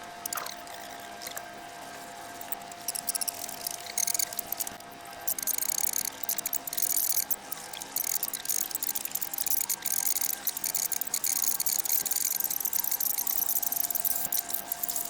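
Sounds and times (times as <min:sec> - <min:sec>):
sped up budgies pecking and chattering: 0:00.0 - 0:15.0.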